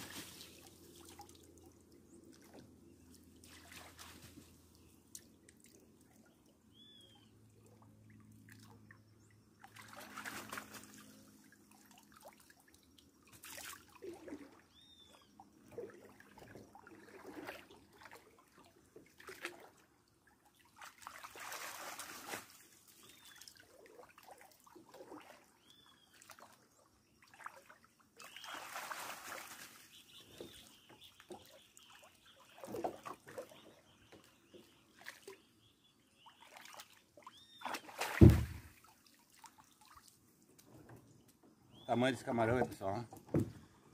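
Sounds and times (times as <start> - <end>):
water splashing and trickling: 0.0 - 43.5.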